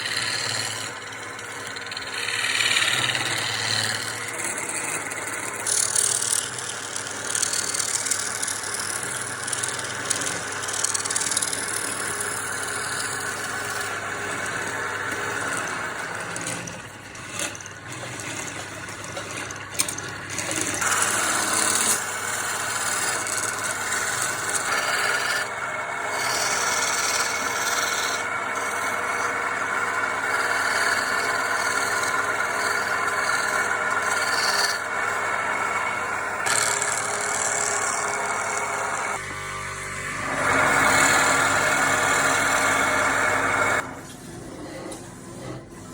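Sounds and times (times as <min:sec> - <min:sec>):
wood lathe scraping: 0:00.0 - 0:45.9.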